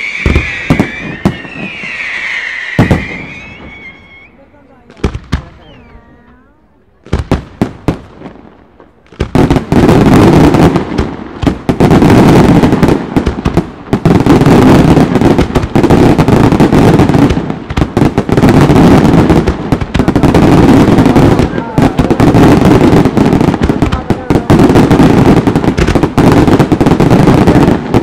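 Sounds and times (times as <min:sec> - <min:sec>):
fireworks bangs: 0:00.0 - 0:28.0
fireworks barrage: 0:00.0 - 0:28.0.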